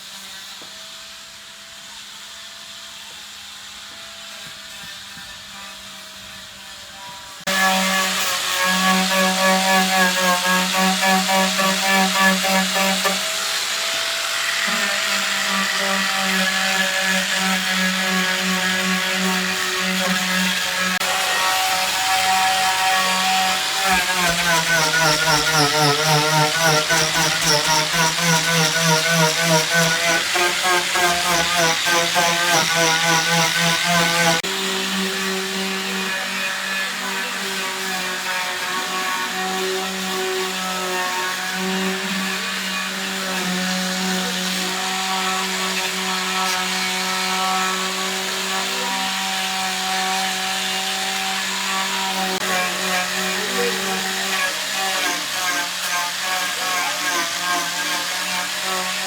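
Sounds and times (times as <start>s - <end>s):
electric power tool running: 0.0s - 59.0s.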